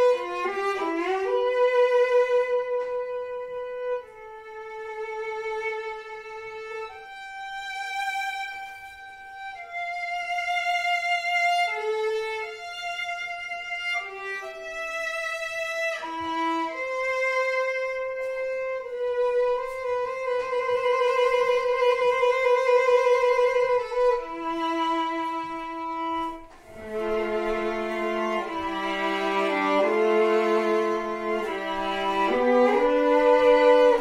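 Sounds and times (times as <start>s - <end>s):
violin playing slow melody: 0.0s - 34.0s.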